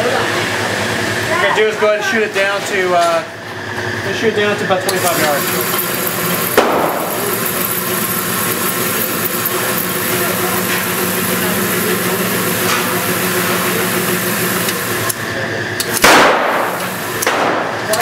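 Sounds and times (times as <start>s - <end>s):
target carrier mechanical hum: 3.2s - 18.0s.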